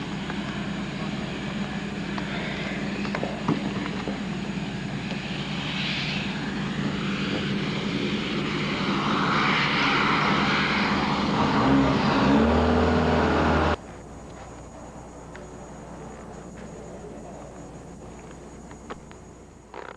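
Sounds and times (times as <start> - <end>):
engine running: 0.0 - 19.9.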